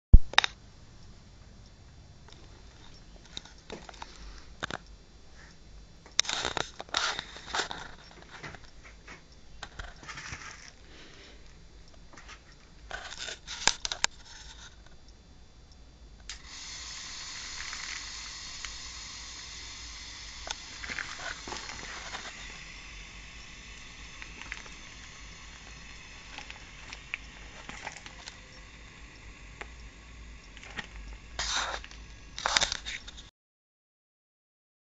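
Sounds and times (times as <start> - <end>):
steady hiss: 0.4 - 33.3.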